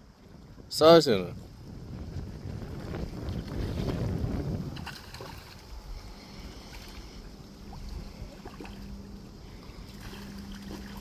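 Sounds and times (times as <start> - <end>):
low steady hum: 0.0 - 11.0
wind rumbling on microphone: 0.0 - 11.0.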